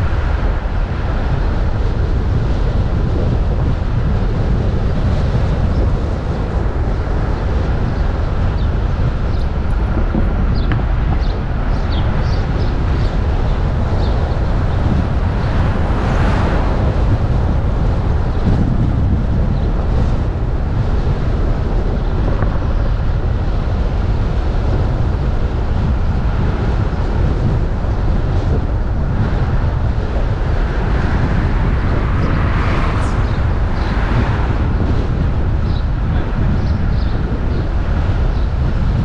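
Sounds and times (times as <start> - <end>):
road noise: 0.0 - 39.0
wind buffeting microphone: 0.0 - 39.0.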